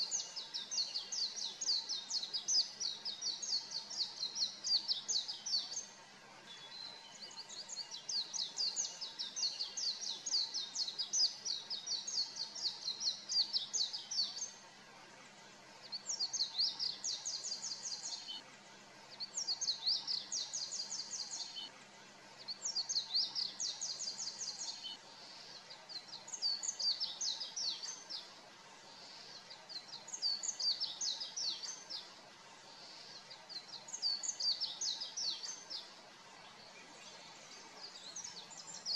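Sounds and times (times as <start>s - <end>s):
bird twittering song: 0.0s - 14.6s, 15.8s - 21.8s, 22.4s - 38.9s.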